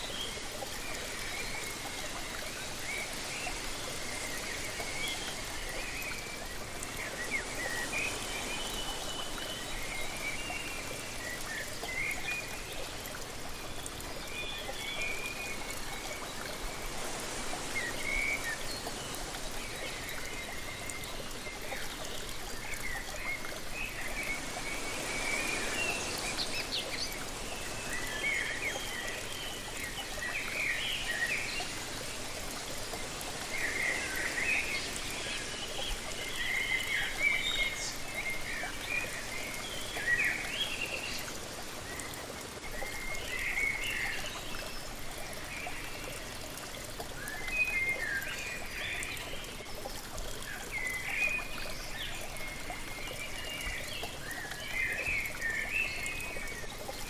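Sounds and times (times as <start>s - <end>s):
waterfall running: 0.0s - 47.4s
songbirds chirping: 0.0s - 57.0s.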